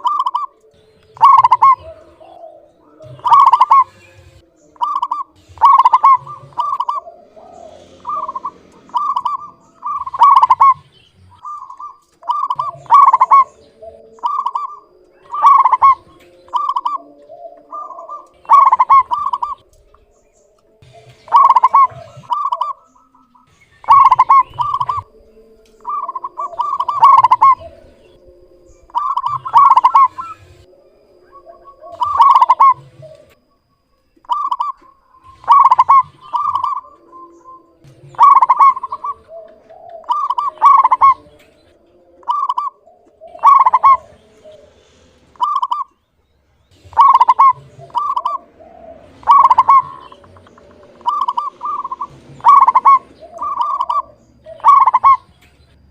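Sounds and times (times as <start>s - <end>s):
dove cooing: 0.0s - 46.0s, 46.7s - 55.9s.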